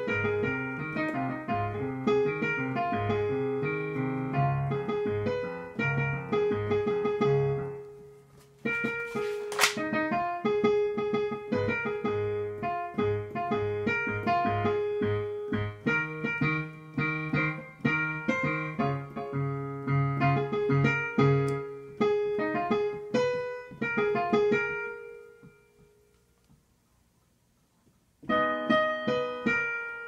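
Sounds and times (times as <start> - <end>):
digital piano playing chords: 0.0 - 9.2, 9.8 - 26.1, 28.2 - 30.0.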